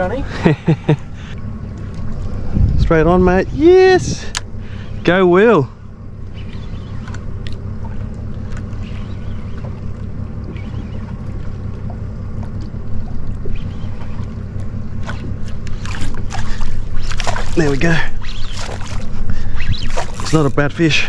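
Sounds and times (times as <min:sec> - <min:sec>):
outboard engine idling: 0:00.0 - 0:21.0
water noise: 0:00.0 - 0:21.0.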